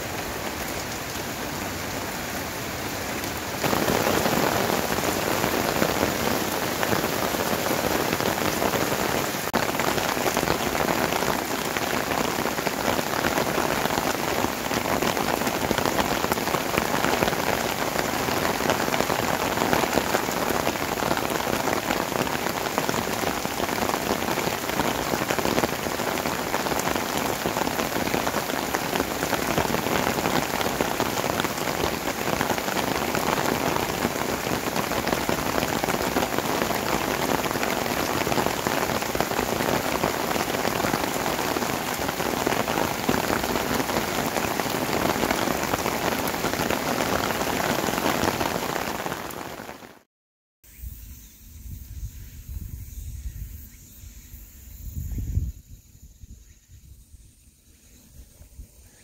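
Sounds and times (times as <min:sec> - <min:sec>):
heavy rain on metal roof: 0:00.0 - 0:50.1.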